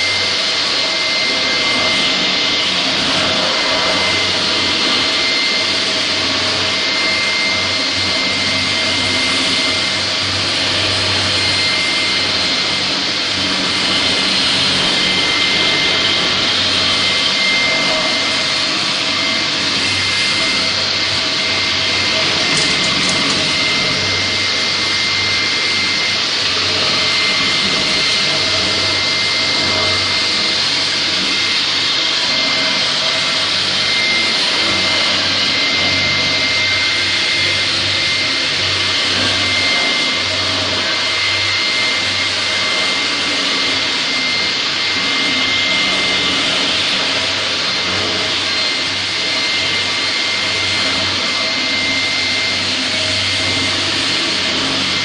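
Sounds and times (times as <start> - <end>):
concrete floor grinder: 0.0 - 55.0
dust extractor running: 0.0 - 55.0
high whine: 0.0 - 55.0.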